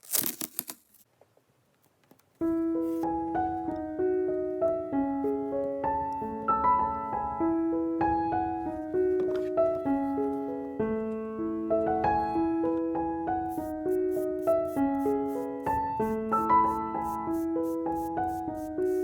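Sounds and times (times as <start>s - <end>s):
gentle solo piano music: 2.4s - 19.0s.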